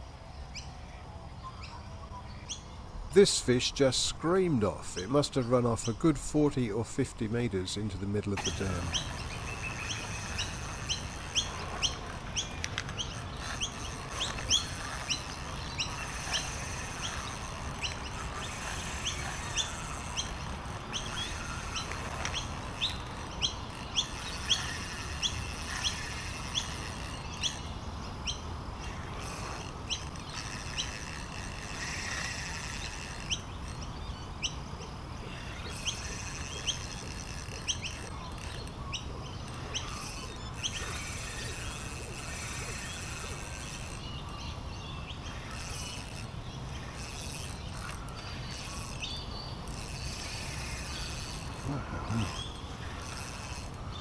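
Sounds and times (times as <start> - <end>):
background bird chorus: 0.0 - 54.0
birds chirping: 0.0 - 54.0.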